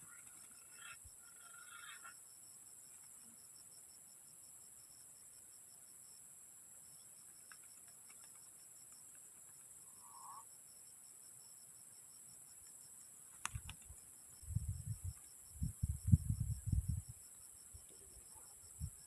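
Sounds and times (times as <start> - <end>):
cricket chirping: 0.0 - 19.0
insects droning: 0.0 - 19.0.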